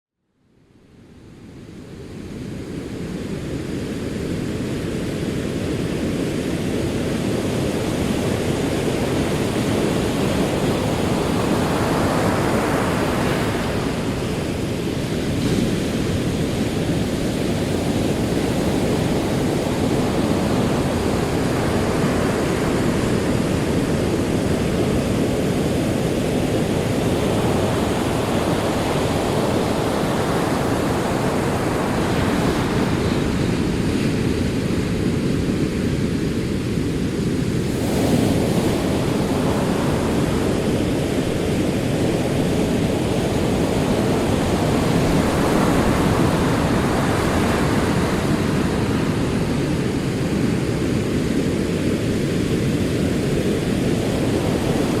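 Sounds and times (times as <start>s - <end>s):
ocean waves on shore: 0.6s - 55.0s.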